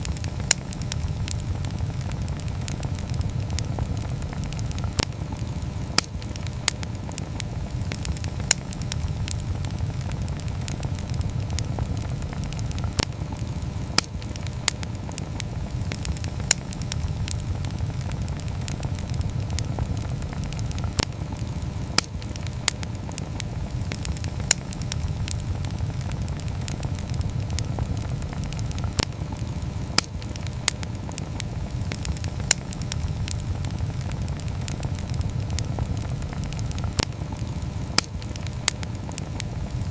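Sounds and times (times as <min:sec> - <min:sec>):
campfire flames rushing: 0:00.0 - 0:39.9
wood crackling and popping: 0:00.0 - 0:39.9.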